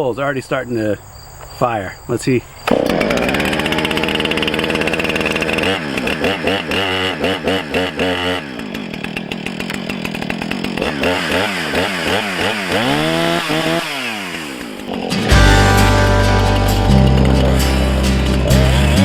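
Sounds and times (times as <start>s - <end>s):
chainsaw engine revving: 2.6s - 19.0s.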